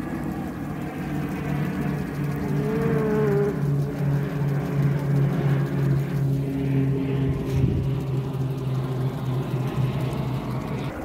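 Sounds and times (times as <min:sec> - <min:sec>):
motor humming: 0:00.0 - 0:11.0
wavering higher tone: 0:00.0 - 0:11.0.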